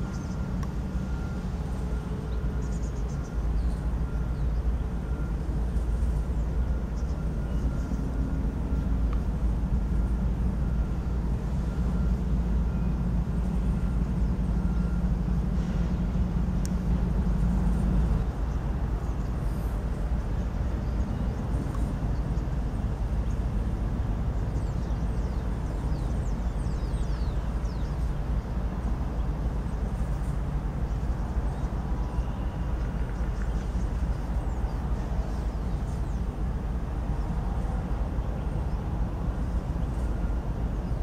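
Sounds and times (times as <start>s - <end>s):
diesel locomotive engine rumbling: 0.0s - 41.0s.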